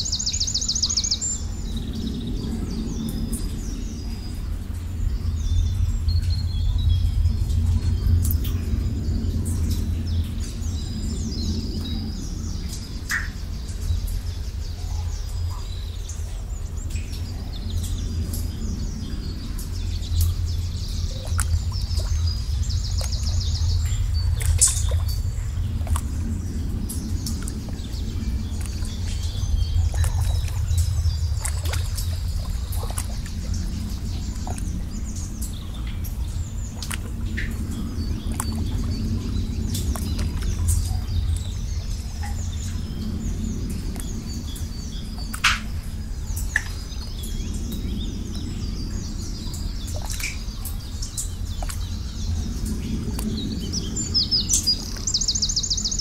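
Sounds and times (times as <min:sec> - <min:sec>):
birds chirping and trilling: 0:00.0 - 0:56.0
steady low rumble: 0:00.0 - 0:56.0.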